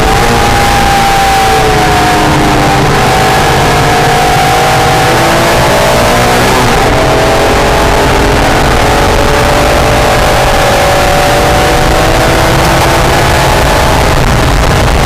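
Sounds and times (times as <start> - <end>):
car engine running hard: 0.0 - 15.0
wind and road noise: 0.0 - 15.0.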